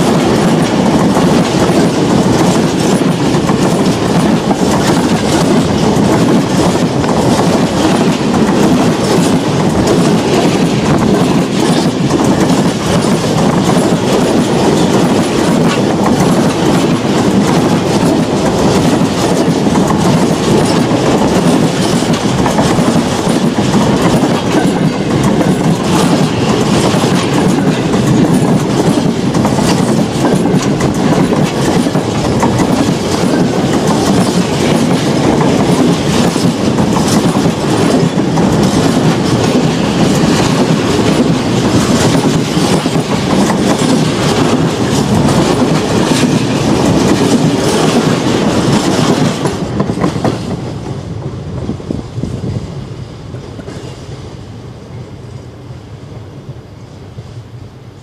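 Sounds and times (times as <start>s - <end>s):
wheels clicking over rail joints: 0.0s - 50.7s
steel wheels rumbling on track: 0.0s - 58.0s.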